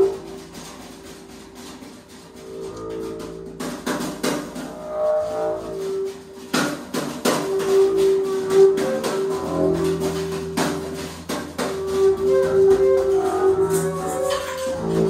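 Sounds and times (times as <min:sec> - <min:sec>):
contrabass low bowed tone: 0:00.0 - 0:15.0
erhu bowed note: 0:00.0 - 0:15.0.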